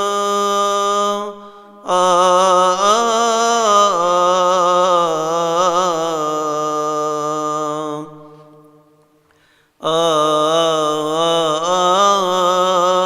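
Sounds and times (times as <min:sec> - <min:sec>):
man chanting a hymn: 0:00.0 - 0:08.6, 0:09.8 - 0:13.0.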